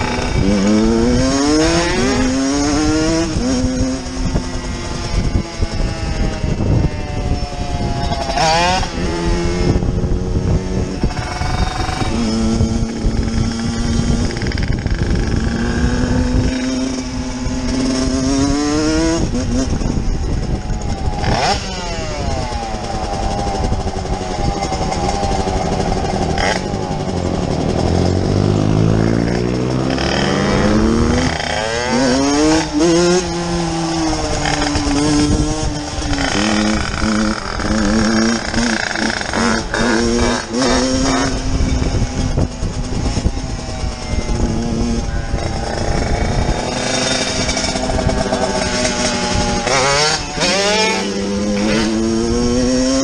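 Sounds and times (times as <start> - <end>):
dirt bike engine revving: 0.0 - 53.0
motorcycle engine running: 0.0 - 53.0.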